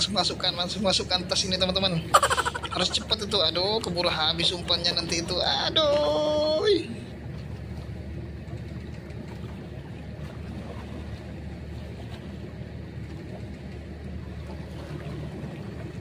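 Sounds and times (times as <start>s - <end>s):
seashore ambience rumble: 0.0s - 16.0s.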